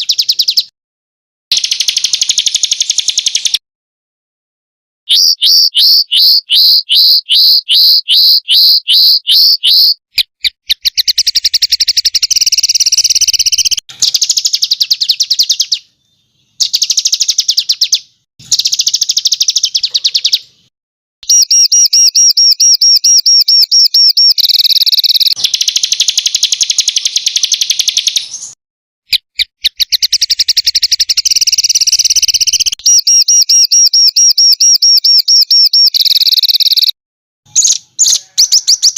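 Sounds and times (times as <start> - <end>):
songbird calls and trills: 0.0 - 0.7, 1.5 - 3.6, 5.1 - 38.9.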